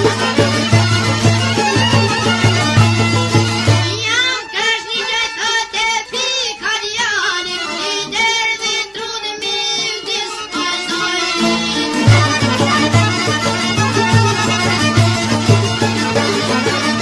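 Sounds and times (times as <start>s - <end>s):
folk song singing: 0.0s - 17.0s.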